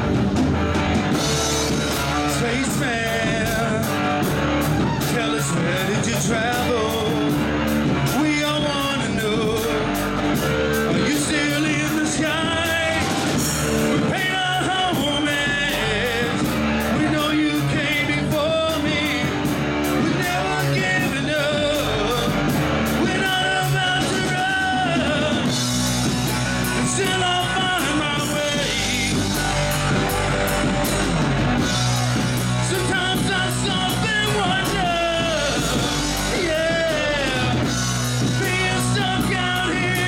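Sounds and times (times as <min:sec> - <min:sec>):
bass guitar: 0:00.0 - 0:40.0
drums with cymbal hits: 0:00.0 - 0:40.0
electric guitar: 0:00.0 - 0:40.0
man singing into a microphone: 0:01.9 - 0:29.7, 0:32.6 - 0:40.0.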